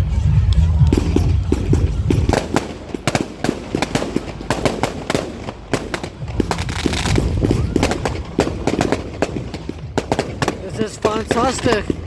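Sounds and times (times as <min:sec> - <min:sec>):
fireworks cracks and bangs: 0:00.8 - 0:12.0.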